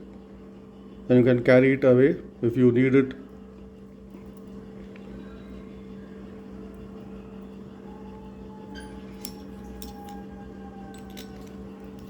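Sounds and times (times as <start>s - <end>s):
machine hum with low rumble: 0.0s - 12.0s.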